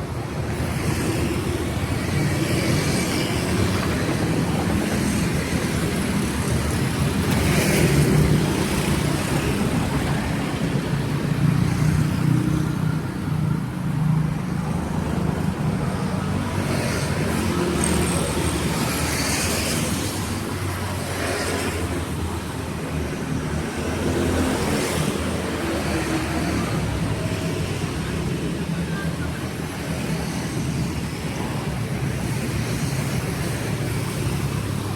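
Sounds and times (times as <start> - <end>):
vehicles passing on wet road: 0.0 - 34.9.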